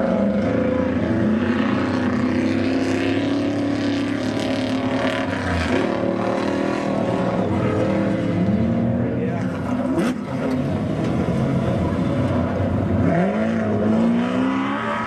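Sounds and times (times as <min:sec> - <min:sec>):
race truck engines revving: 0:00.0 - 0:15.0.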